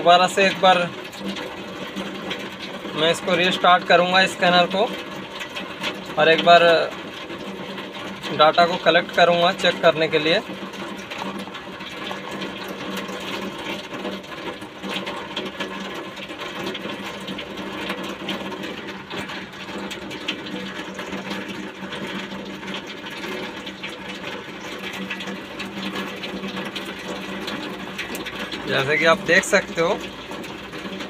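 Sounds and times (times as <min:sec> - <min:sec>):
heavy rain on a car: 0:00.0 - 0:31.0.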